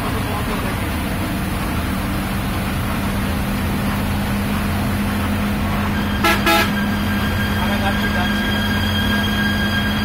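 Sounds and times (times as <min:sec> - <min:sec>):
bus engine drone: 0:00.0 - 0:10.0
tyre and road noise: 0:00.0 - 0:10.0.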